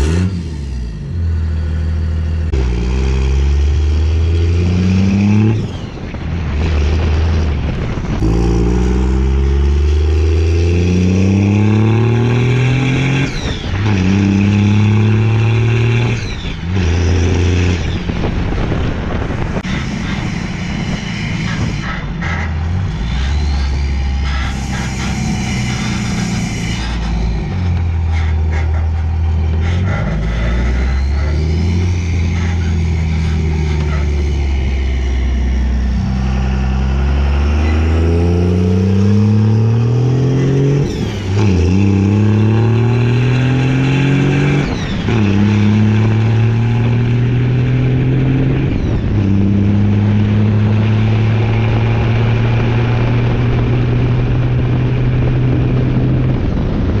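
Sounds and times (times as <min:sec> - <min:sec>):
diesel truck engine accelerating: 0:00.0 - 0:57.0
road and wind noise: 0:00.0 - 0:57.0.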